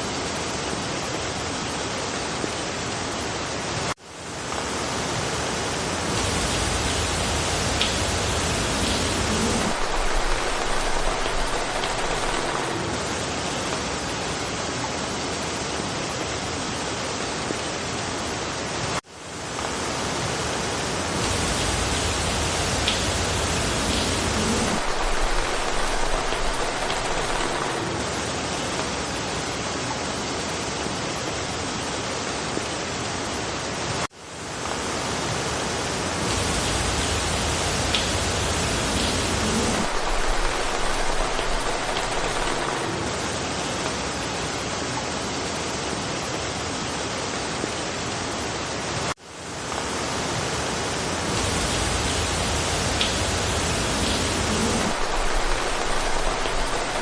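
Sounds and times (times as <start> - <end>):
rain falling through foliage: 0.0 - 57.0.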